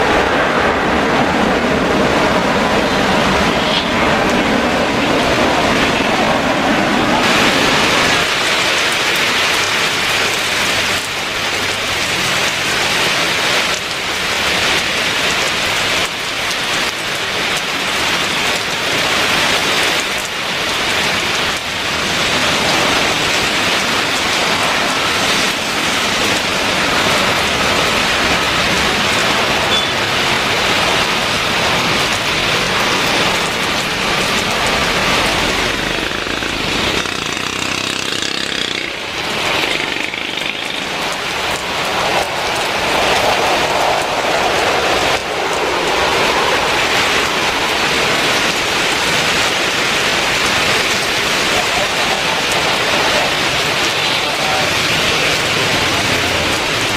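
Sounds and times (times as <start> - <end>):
jet airliner engines rumbling: 0.0 - 10.4, 18.0 - 56.9
heavy rain hissing: 0.0 - 56.9.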